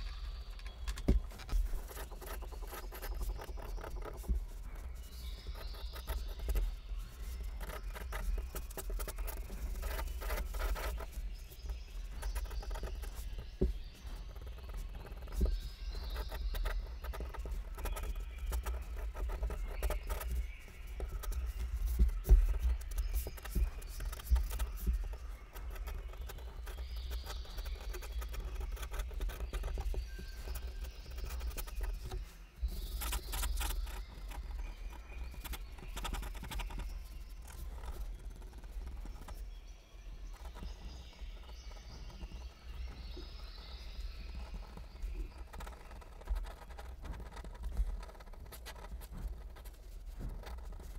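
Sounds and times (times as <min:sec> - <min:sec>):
pen nib scratching on paper: 0:00.0 - 0:39.4, 0:40.2 - 0:50.9.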